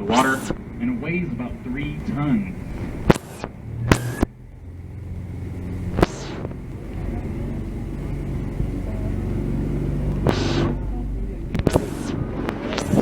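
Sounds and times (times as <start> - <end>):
boat motor drone: 0.0 - 13.0.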